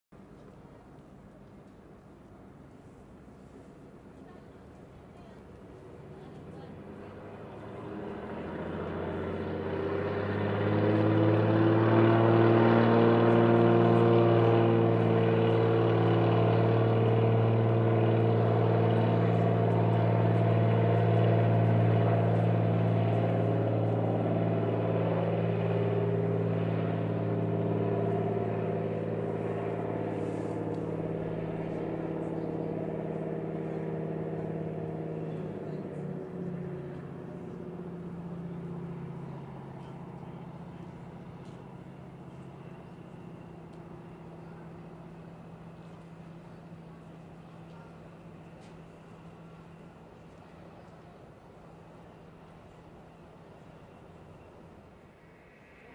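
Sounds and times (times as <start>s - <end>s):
radial aircraft engine and propeller: 0.2s - 55.9s.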